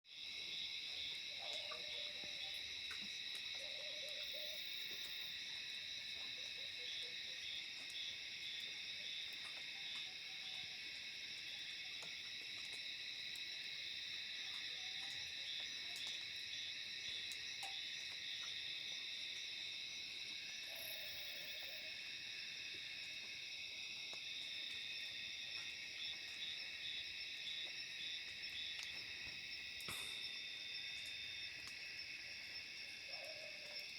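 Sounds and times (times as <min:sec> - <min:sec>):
night insects chorus: 0:00.1 - 0:33.9.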